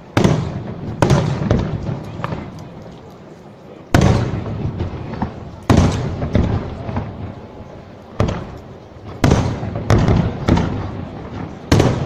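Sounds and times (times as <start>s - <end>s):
fireworks bursting with echo: 0.0s - 12.0s.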